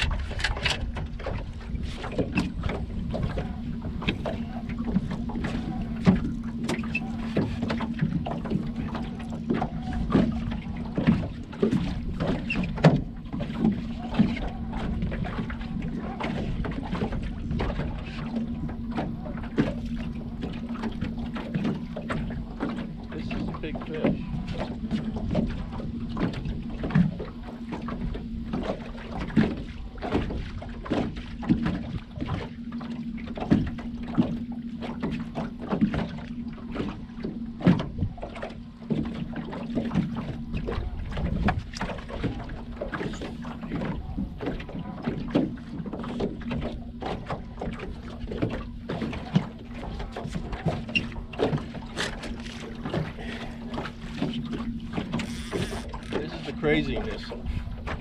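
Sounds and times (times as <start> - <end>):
steady low hum: 0.0 - 58.0
water lapping against boat hull: 0.0 - 58.0.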